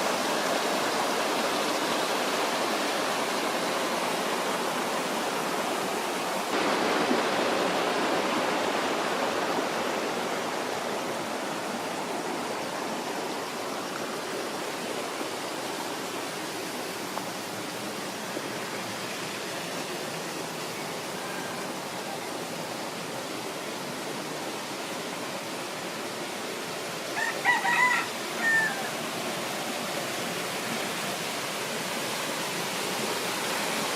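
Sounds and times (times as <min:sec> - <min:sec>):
flowing water rushing: 0:00.0 - 0:33.9.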